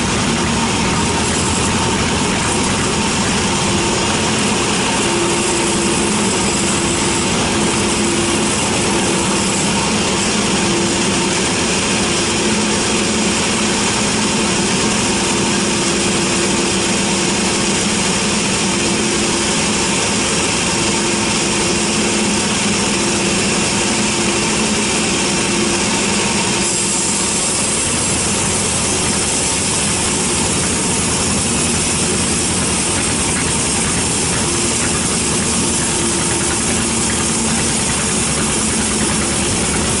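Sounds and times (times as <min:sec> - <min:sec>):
band saw blade cutting log: 0:00.0 - 0:40.0
machine hum: 0:00.0 - 0:40.0.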